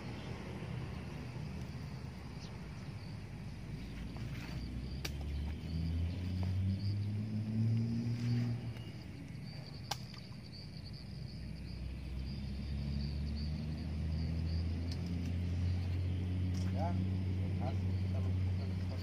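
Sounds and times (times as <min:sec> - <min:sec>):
insects trilling: 0:00.0 - 0:19.0
low motor hum: 0:00.0 - 0:19.0.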